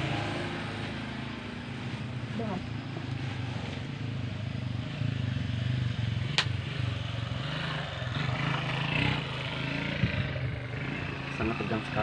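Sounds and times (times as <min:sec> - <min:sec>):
small engine running: 0:01.8 - 0:12.0.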